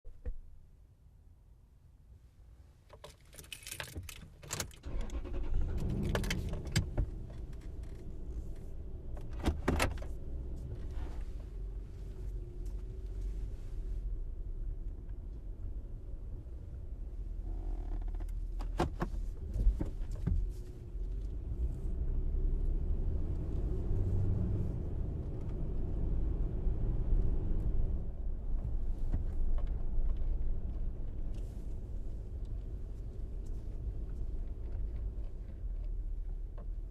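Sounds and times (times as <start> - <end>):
vehicle driving low rumble: 5.0 - 36.9.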